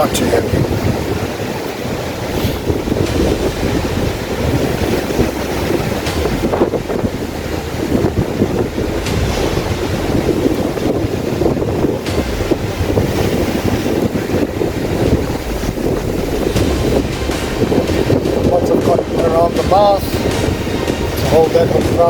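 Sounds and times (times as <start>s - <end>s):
ocean surf washing: 0.0s - 22.0s
wind gusting against microphone: 0.0s - 22.0s.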